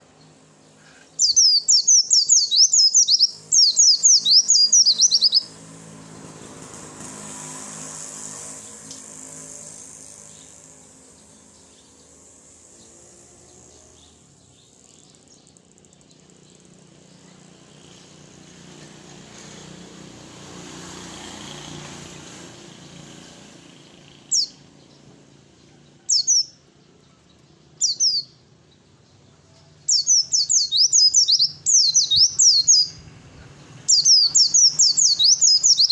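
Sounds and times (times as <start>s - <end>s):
bird chirping song: 0.0s - 19.8s, 21.7s - 35.9s.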